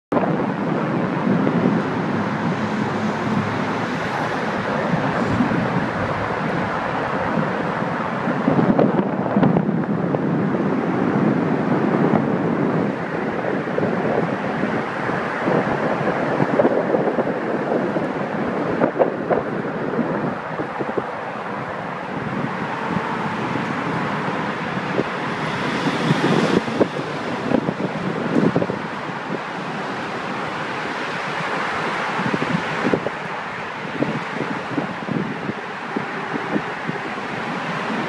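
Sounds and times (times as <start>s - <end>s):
road traffic on a bridge: 0.1s - 38.0s
wind buffeting microphone: 0.1s - 38.0s.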